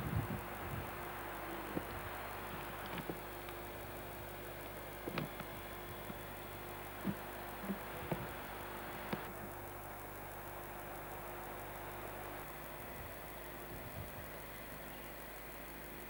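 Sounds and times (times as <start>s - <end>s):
faint steady hum: 0.0s - 16.0s
tape hiss: 0.0s - 16.0s.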